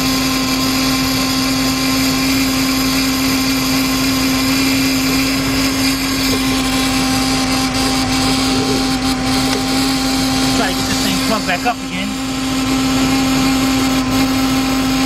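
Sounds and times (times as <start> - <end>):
engine idling with drone: 0.0 - 15.0.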